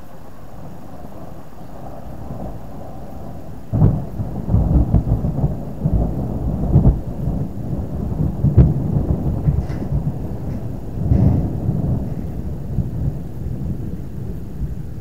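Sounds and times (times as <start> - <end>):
thunder crack and rumble: 0.0 - 15.0.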